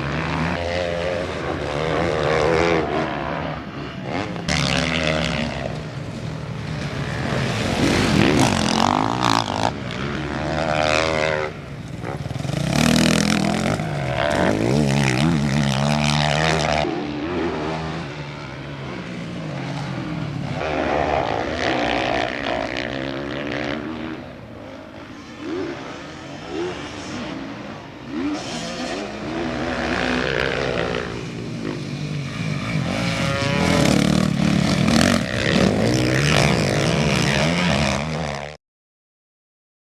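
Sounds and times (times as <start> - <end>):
motorcycle engines revving: 0.0 - 38.6.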